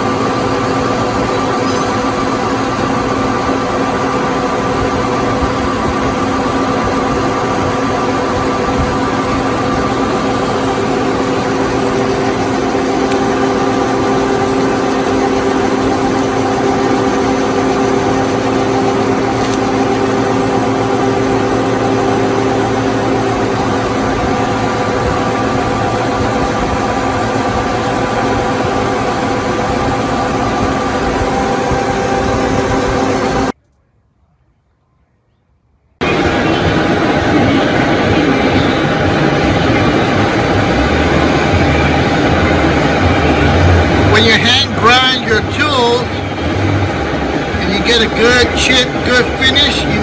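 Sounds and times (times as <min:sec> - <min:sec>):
metal lathe whining: 0:00.0 - 0:33.6, 0:36.0 - 0:50.0.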